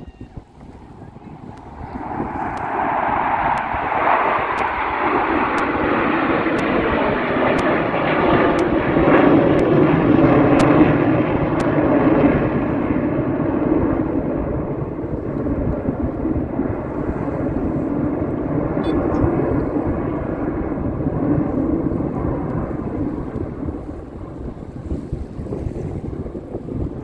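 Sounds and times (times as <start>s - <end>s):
aircraft engine passing by: 0.0s - 27.0s.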